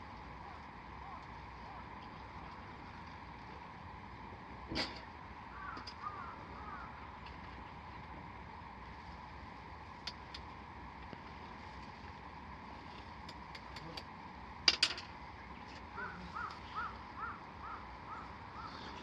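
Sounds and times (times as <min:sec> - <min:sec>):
campfire wood crackling: 0:00.0 - 0:17.2.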